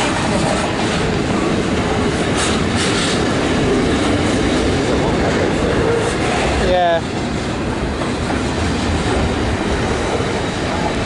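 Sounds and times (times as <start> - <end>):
freight train wagons rolling past: 0.0 - 11.0.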